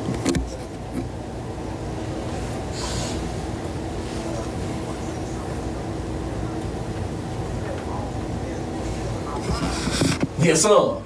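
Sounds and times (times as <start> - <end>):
low studio room hum: 0.0 - 11.0.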